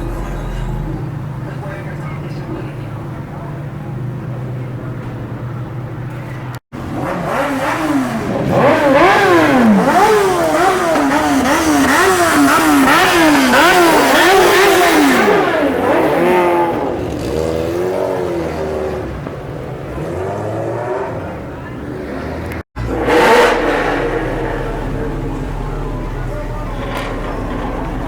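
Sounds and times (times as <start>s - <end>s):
car engine revving: 0.0s - 2.0s, 6.1s - 28.0s.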